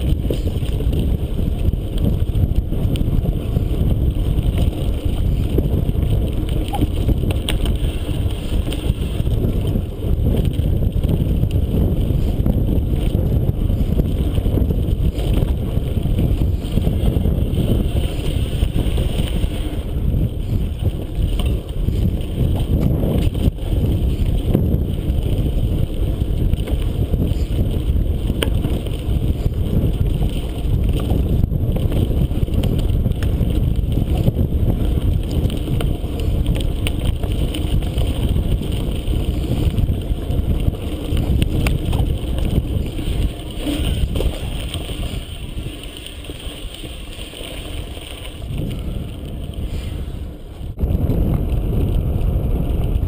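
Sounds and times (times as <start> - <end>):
bike tyres and frame rattling: 0.0 - 53.0
wind buffeting microphone: 0.0 - 53.0.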